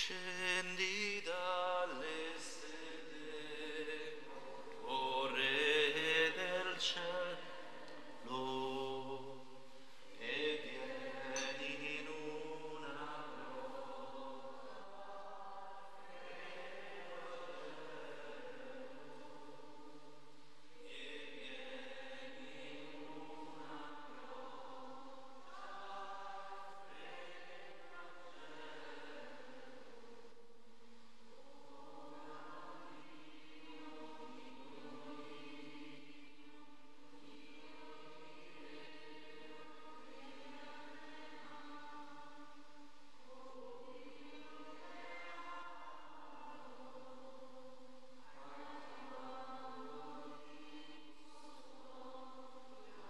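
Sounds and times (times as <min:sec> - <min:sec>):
voices singing a hymn in unison: 0:00.0 - 0:53.0.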